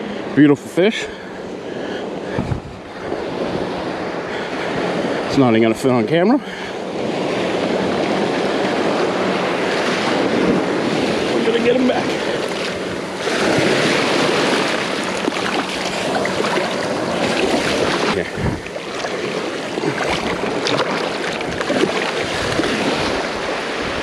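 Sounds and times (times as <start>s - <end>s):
ocean surf washing up: 0.0s - 24.0s
wind on microphone: 2.2s - 5.8s, 6.8s - 24.0s.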